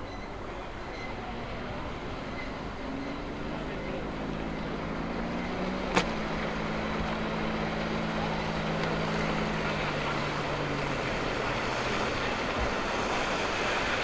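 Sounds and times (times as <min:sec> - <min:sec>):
outboard motor running: 0:01.2 - 0:14.0
rushing water and spray: 0:01.4 - 0:14.0.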